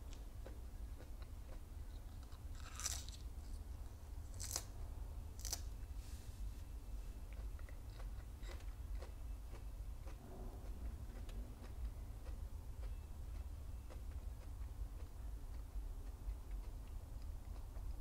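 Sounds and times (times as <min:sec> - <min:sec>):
petals crunching being chewed: 0:00.1 - 0:04.8, 0:05.4 - 0:05.7, 0:07.3 - 0:17.9.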